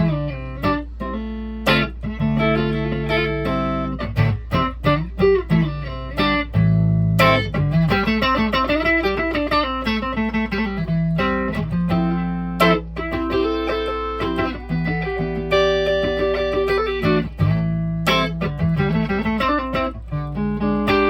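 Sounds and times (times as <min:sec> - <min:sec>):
electric guitar playing: 0:00.0 - 0:21.0.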